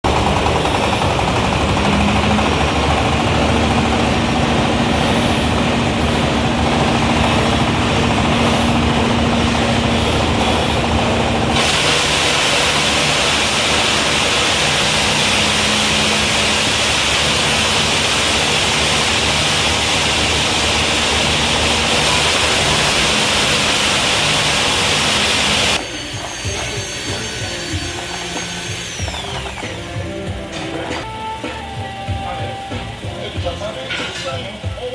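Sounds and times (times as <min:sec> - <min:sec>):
shredder machine running: 0:00.0 - 0:34.0.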